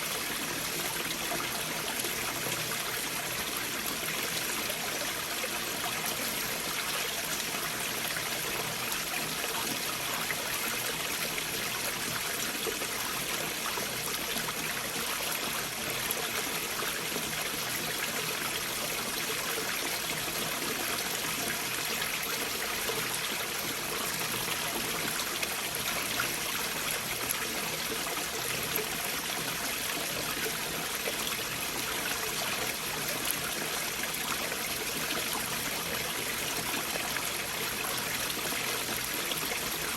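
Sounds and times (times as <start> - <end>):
stream flowing among boulders: 0.0 - 39.9.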